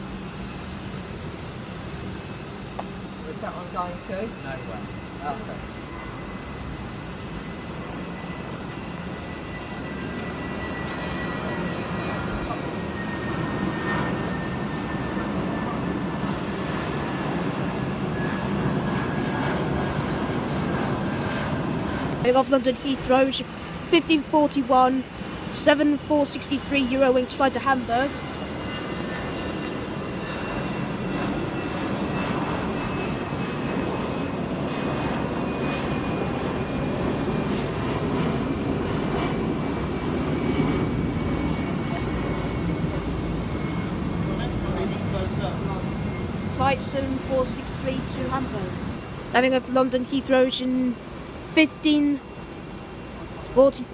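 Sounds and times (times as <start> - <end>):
jet engines rumbling: 0.0 - 53.9.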